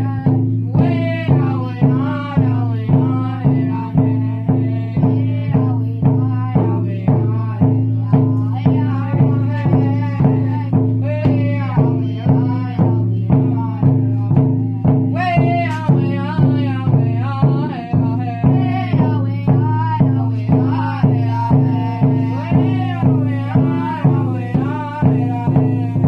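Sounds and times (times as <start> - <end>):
drum beating: 0.0 - 26.0
high wavering singing: 0.0 - 26.0.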